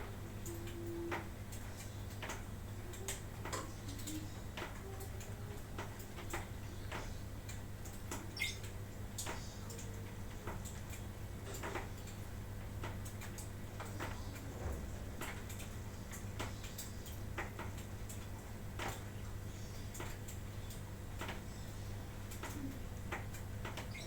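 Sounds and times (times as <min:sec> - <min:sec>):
light clicks and taps: 0:00.4 - 0:19.2, 0:19.9 - 0:21.4, 0:22.3 - 0:24.0.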